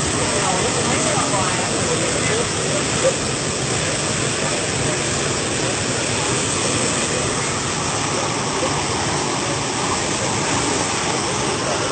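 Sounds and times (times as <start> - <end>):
waterfall pouring: 0.0 - 11.9.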